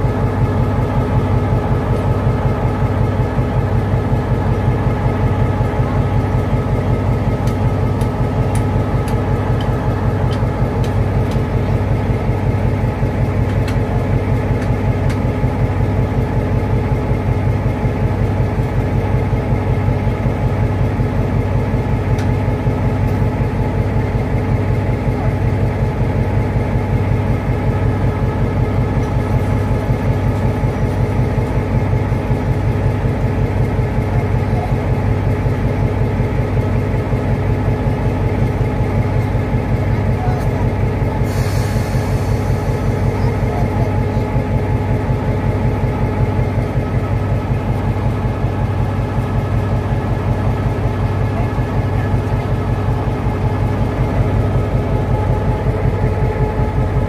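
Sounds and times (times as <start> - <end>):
train running drone: 0.0 - 57.0.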